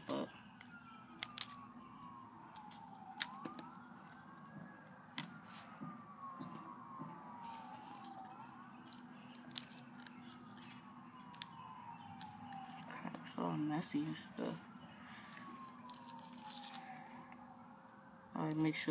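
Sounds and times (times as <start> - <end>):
faint siren wailing: 0.0 - 18.9.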